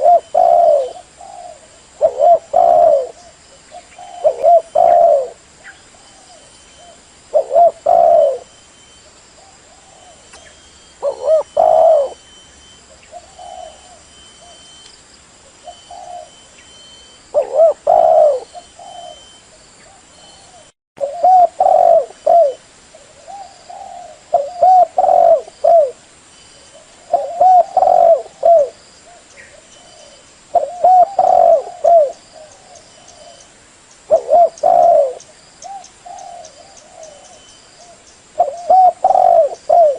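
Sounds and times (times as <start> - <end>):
dove cooing: 0.0 - 14.8, 15.4 - 26.0, 26.6 - 33.5, 34.1 - 39.9.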